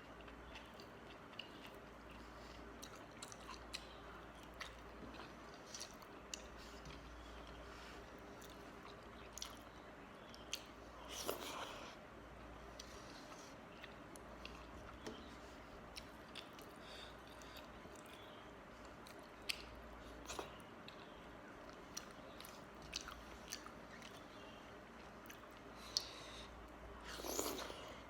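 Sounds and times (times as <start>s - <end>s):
person chewing wet food: 0.0s - 28.0s.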